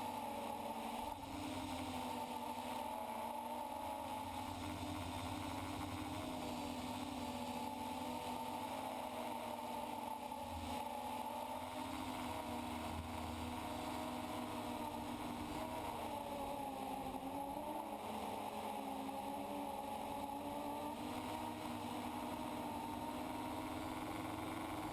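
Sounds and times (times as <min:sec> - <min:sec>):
drone propellers whirring: 0:00.0 - 0:24.9.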